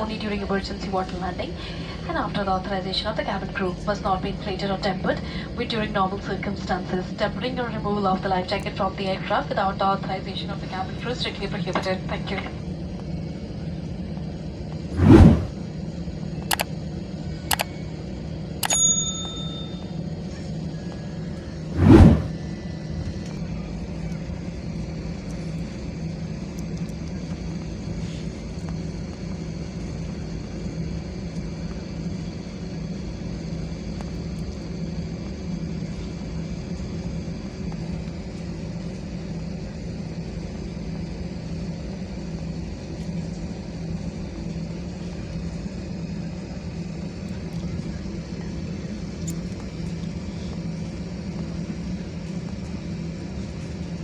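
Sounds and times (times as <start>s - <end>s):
jet engines droning in cabin: 0.0s - 54.0s
faint high whine: 6.5s - 54.0s.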